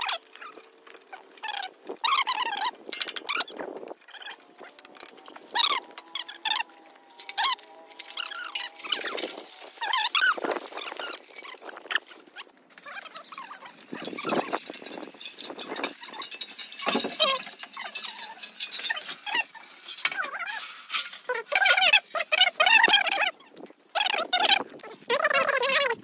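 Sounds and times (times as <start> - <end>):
metallic clinks and knocks: 0.0 - 23.2
short high squeaks: 1.4 - 25.9.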